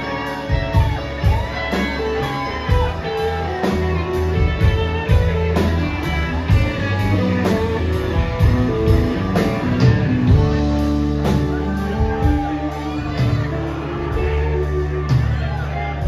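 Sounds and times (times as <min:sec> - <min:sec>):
electric guitars: 0:00.0 - 0:16.0
live band playing: 0:00.0 - 0:16.0.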